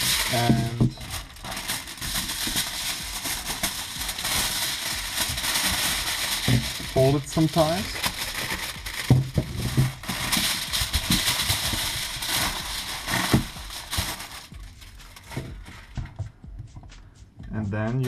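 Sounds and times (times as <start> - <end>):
aluminium foil crinkling: 0.0 - 16.1.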